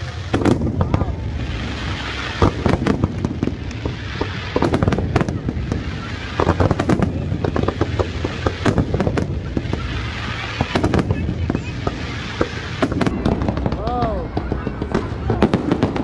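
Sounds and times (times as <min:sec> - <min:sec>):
continuous low rumble: 0:00.0 - 0:16.0
fireworks bangs and crackles: 0:00.0 - 0:16.0.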